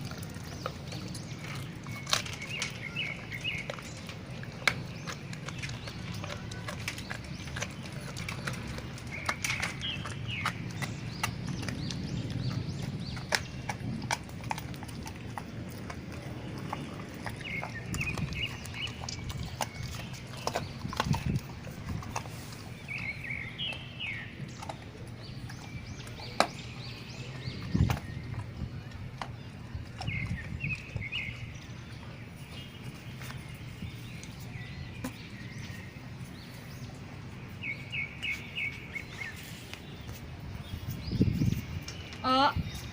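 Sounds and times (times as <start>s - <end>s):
bones crunching: 0.0s - 36.4s
dogs chewing wetly: 0.0s - 42.9s
small birds chirping: 0.0s - 42.9s.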